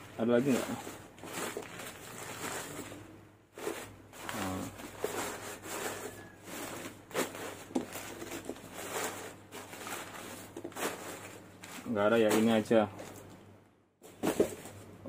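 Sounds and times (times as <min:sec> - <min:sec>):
newspaper rustling and crinkling: 0:00.0 - 0:13.4.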